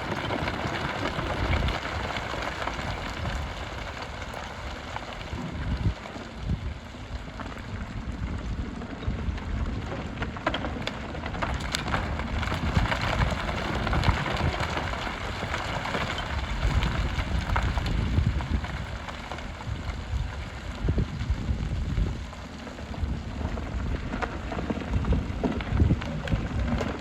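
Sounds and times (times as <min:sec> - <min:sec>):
excavator engine rumble: 0:00.0 - 0:27.0
gravel scraping and pouring: 0:00.0 - 0:27.0.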